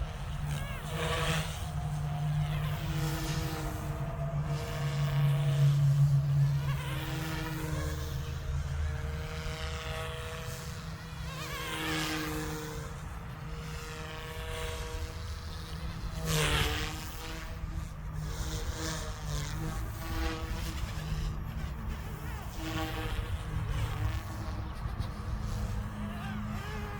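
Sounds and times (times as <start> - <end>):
rc helicopter buzzing: 0.0 - 26.9.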